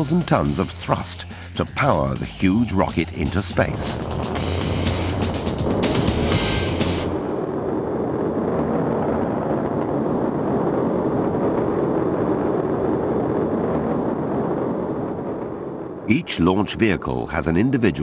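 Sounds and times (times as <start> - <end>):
rocket engines roaring: 0.0 - 18.0.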